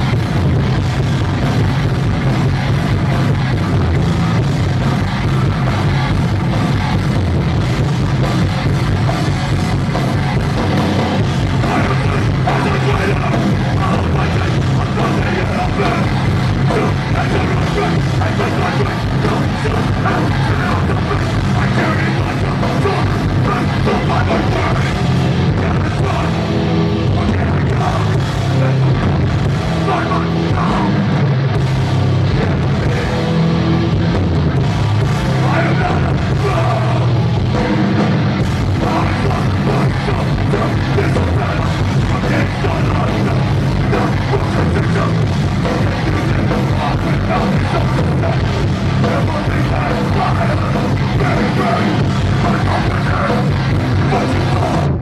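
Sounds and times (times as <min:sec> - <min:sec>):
punk band playing live: 0:00.0 - 0:55.0.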